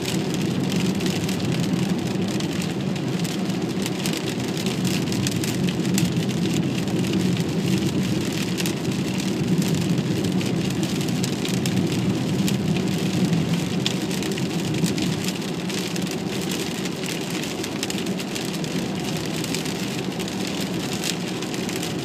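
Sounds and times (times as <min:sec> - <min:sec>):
car rumbling on wet road: 0:00.0 - 0:22.0
heavy rain on car windshield: 0:00.0 - 0:22.0.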